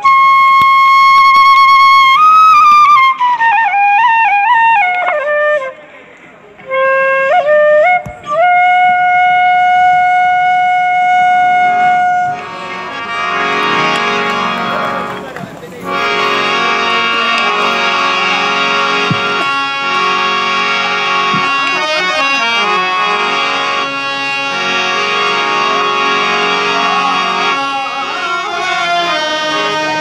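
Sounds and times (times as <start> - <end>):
wind instrument playing slow melody: 0.0 - 30.0.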